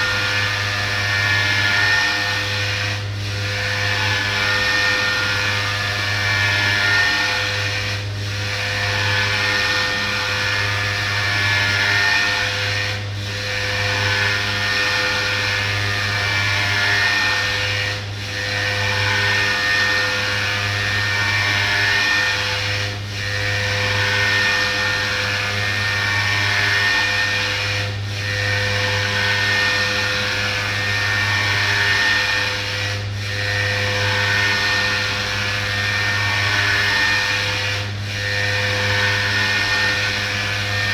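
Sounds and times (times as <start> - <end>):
milling machine spindle whine: 0.0 - 40.9.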